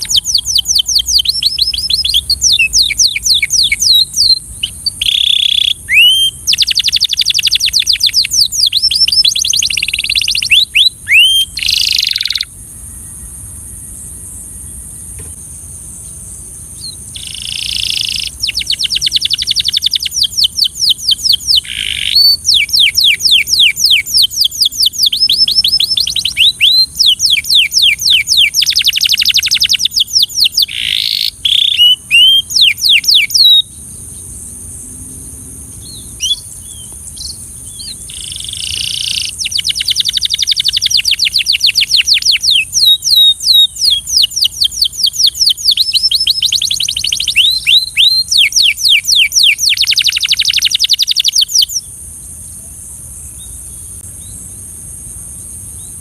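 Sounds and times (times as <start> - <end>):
canary singing in fast trills: 0.0 - 12.5, 16.8 - 34.2, 35.6 - 51.9.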